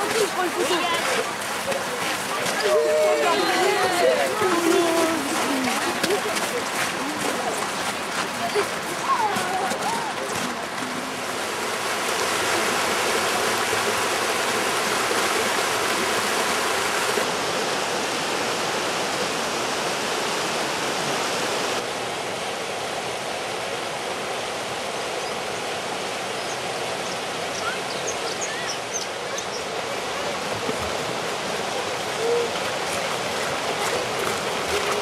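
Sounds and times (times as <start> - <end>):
stream rushing over rocks: 0.0 - 35.0.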